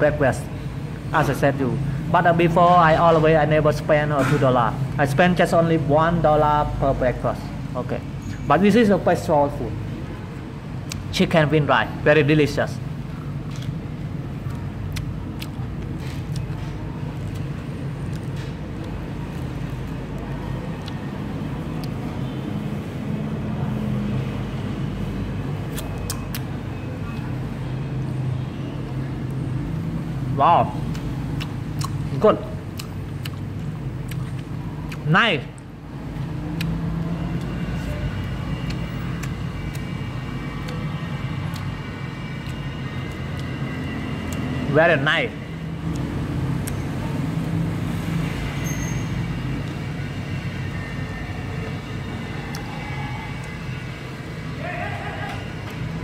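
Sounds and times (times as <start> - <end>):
engine and road traffic hum: 0.0 - 56.0.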